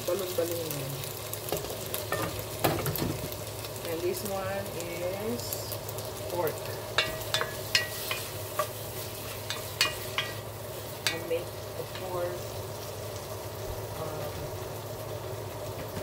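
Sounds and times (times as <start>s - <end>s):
tomatoes sizzling in oil: 0.0s - 16.0s.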